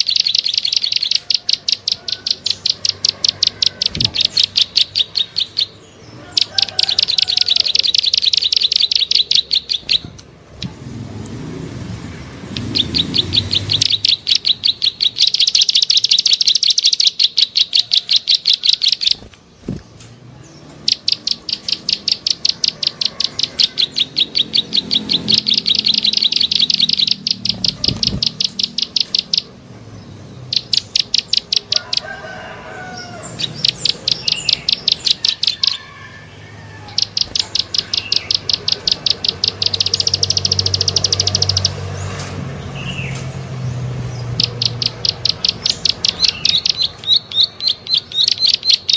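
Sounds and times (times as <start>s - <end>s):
bird clicking call: 0.0s - 10.8s, 12.5s - 19.8s, 20.7s - 29.5s, 30.5s - 32.4s, 33.4s - 35.8s, 36.9s - 42.3s, 44.3s - 48.9s.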